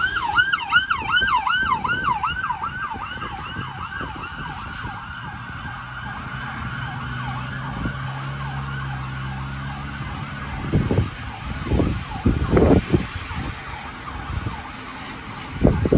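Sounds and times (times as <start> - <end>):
siren yelping: 0.0 - 15.9.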